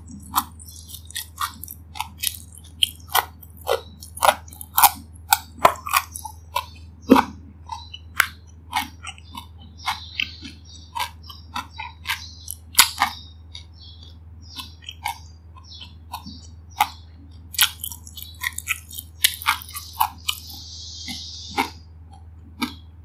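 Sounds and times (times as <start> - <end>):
low steady hum: 0.0 - 23.0
mouth chewing food: 0.0 - 23.0.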